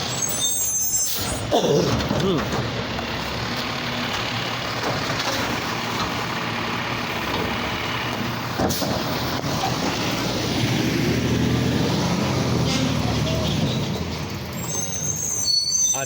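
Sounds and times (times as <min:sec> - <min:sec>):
garbage truck engine running: 0:00.0 - 0:15.7.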